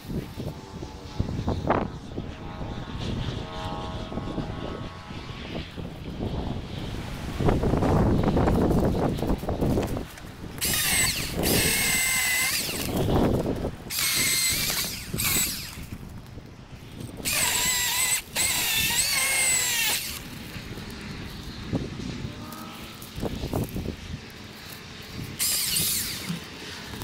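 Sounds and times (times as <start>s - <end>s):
electric chainsaw cutting wood: 2.6s - 27.0s.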